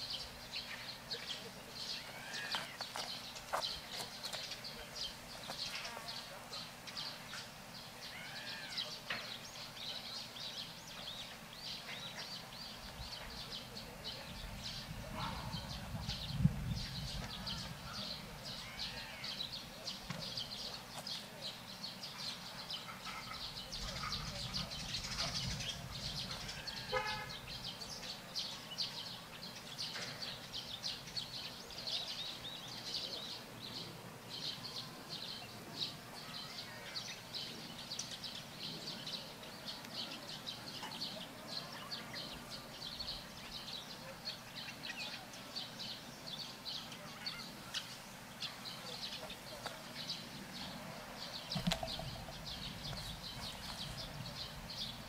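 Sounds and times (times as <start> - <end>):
birds chirping: 0.0 - 55.0
low steady background noise: 0.0 - 55.0.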